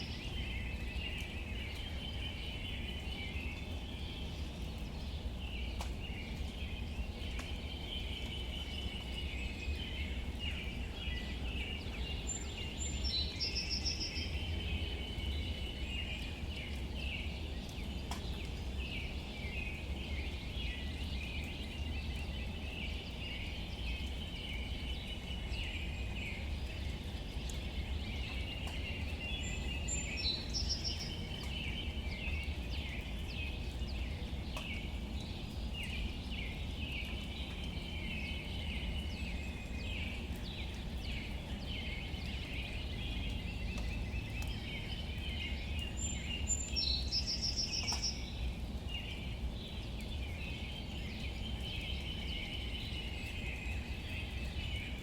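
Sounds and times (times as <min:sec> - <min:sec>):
light rain pattering on leaves: 0:00.0 - 0:55.0.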